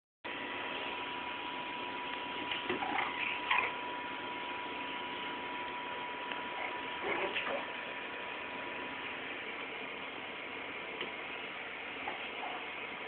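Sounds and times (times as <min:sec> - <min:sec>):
recording device hiss: 0:00.3 - 0:13.0.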